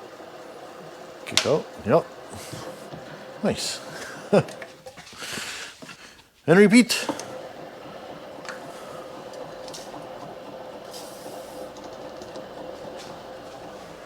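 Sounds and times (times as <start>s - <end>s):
milling machine hum: 0.0s - 14.0s.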